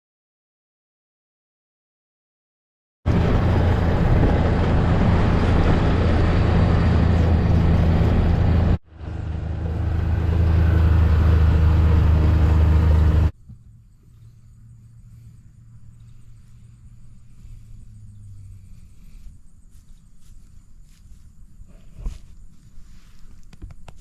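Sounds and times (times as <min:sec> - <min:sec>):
vehicle engine humming: 0:03.1 - 0:24.0.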